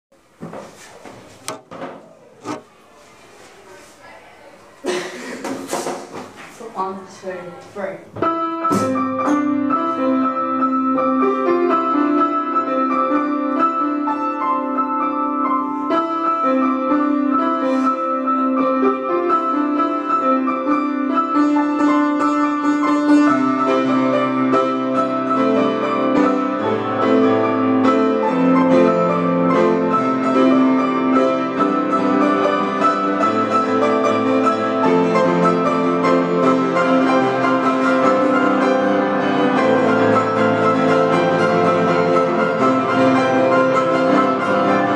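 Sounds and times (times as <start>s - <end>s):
piano duet: 0.2s - 44.9s.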